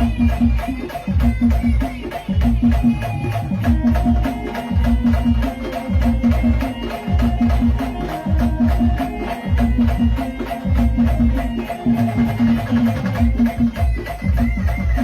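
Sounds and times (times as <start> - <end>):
drum beat: 0.0 - 15.0
instrumental folk music: 0.0 - 15.0.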